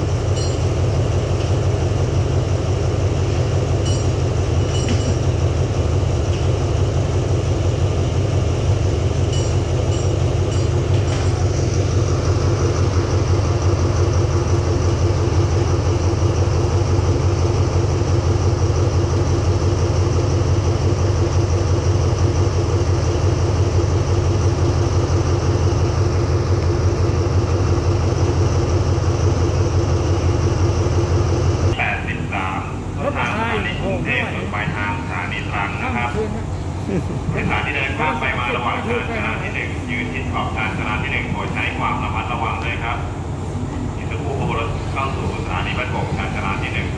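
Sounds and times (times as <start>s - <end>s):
constant hum: 0.0s - 46.9s
diesel locomotive engine idling: 0.0s - 46.9s.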